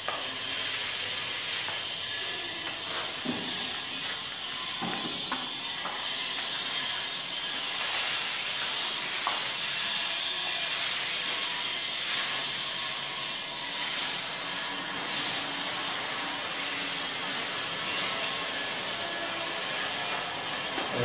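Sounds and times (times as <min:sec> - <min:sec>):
paint roller rolling on wall: 0:00.0 - 0:21.0.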